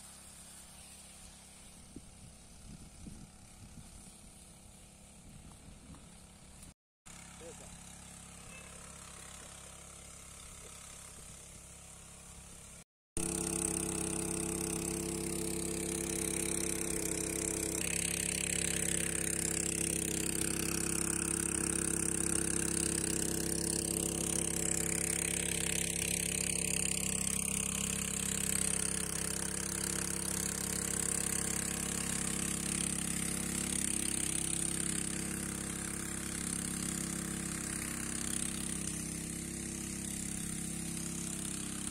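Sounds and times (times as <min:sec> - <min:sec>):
engine-driven water pump running: 0:00.0 - 0:41.9.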